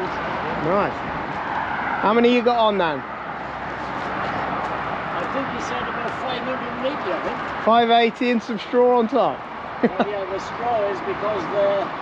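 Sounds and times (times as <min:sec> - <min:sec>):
vehicle rumble and hiss: 0:00.0 - 0:12.0.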